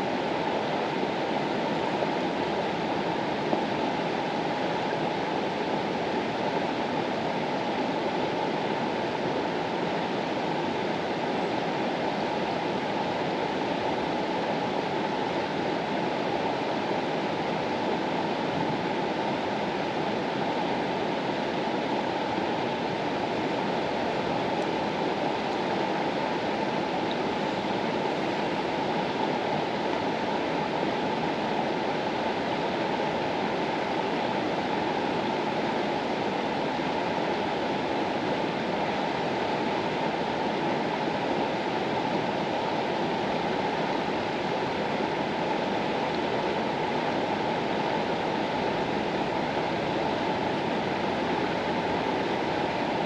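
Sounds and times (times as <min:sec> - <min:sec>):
river water flowing: 0:00.0 - 0:53.0.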